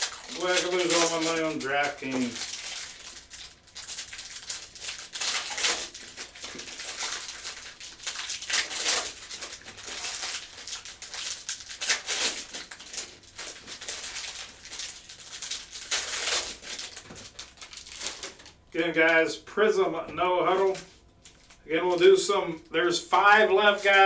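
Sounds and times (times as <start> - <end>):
cards rustling and flicking: 0.0 - 19.2, 23.2 - 24.0
foil wrappers crinkling: 0.0 - 24.0.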